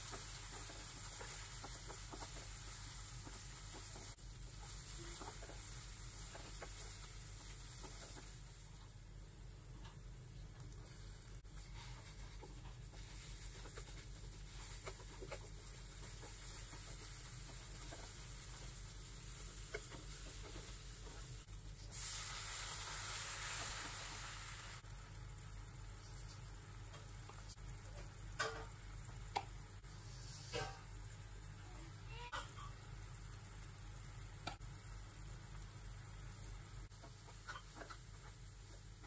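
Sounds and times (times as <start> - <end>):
onions frying in oil: 0.0 - 39.0.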